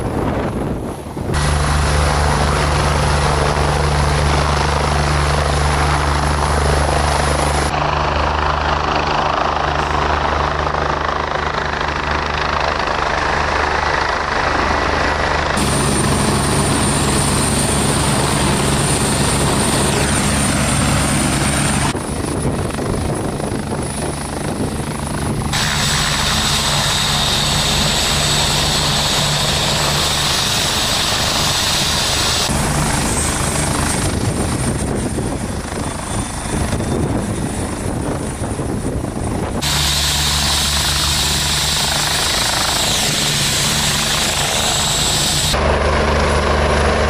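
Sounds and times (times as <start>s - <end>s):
helicopter rotor beat: 0.0s - 47.0s
helicopter turbine whine: 0.0s - 47.0s.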